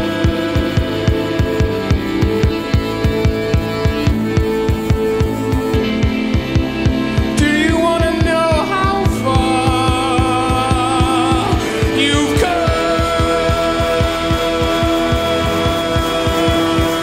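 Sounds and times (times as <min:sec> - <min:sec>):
fast drum beat: 0:00.0 - 0:17.0
live rock band playing: 0:00.0 - 0:17.0.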